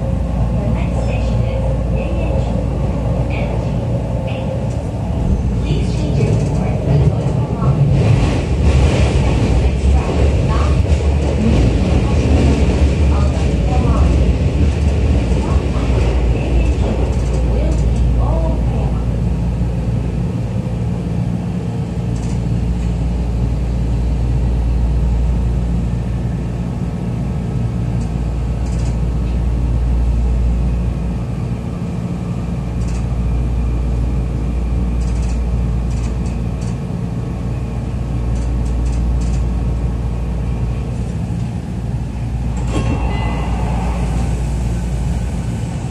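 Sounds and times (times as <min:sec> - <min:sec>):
train running rumble: 0:00.0 - 0:45.9.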